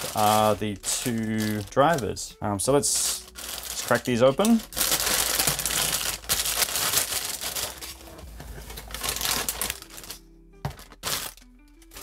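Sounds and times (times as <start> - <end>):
faint background music: 0.0 - 12.0
plastic bag crinkling: 0.0 - 12.0.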